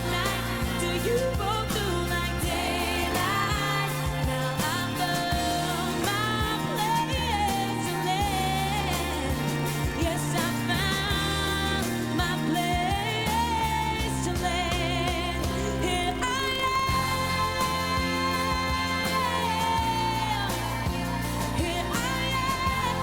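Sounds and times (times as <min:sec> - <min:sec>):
melody over bass and chords: 0:00.0 - 0:23.0.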